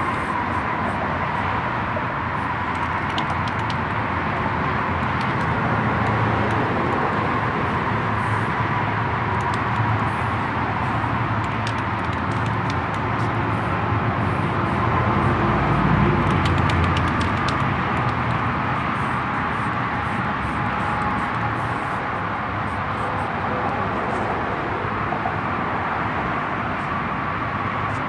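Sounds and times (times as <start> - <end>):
mechanical running hum: 0.0 - 23.4.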